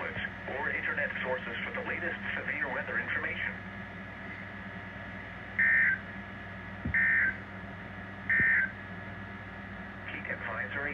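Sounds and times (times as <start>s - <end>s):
steady background hum: 0.0s - 10.9s.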